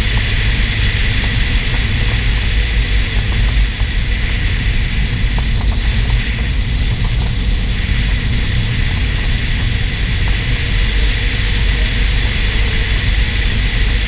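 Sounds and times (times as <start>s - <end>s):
car engine and tyre noise: 0.0s - 14.0s
wind rumble on microphone: 0.0s - 14.0s.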